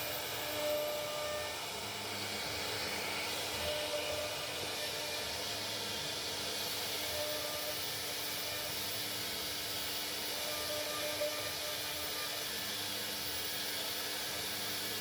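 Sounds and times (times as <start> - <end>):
router spindle cutting: 0.0 - 15.0.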